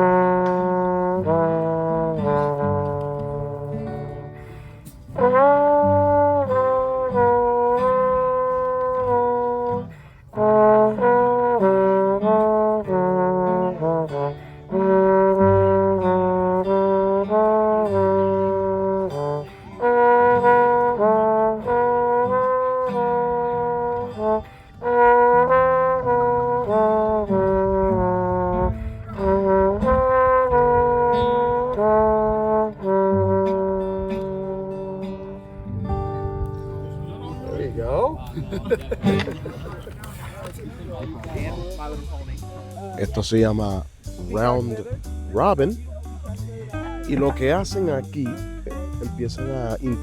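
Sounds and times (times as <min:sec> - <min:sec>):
brass-led instrumental music: 0:00.0 - 0:50.0.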